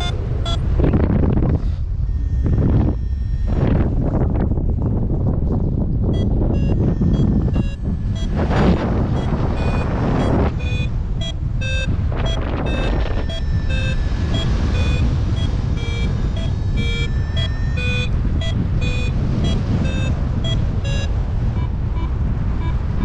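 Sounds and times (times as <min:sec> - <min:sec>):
variometer beeping: 0:00.0 - 0:04.9, 0:05.9 - 0:23.0
wind buffeting microphone: 0:00.0 - 0:23.0.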